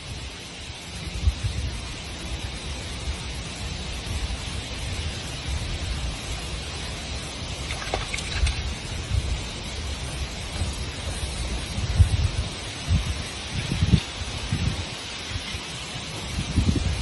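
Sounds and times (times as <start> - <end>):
steady hiss: 0.0 - 17.0
wind buffeting microphone: 0.0 - 17.0.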